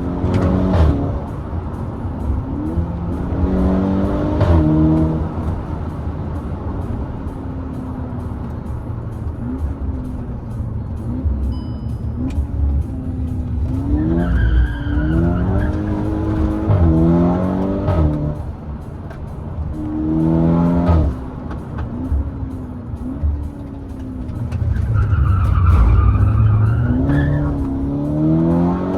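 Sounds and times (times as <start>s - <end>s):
turbocharged car engine accelerating: 0.0s - 28.9s.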